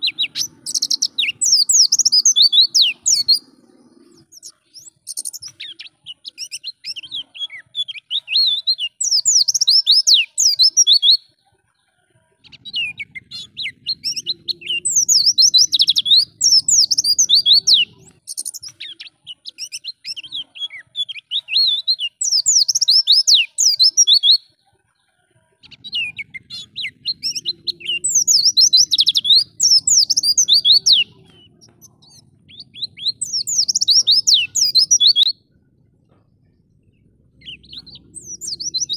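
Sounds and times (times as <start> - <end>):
bird chattering song: 0.0 - 11.4, 12.4 - 24.6, 25.6 - 38.9.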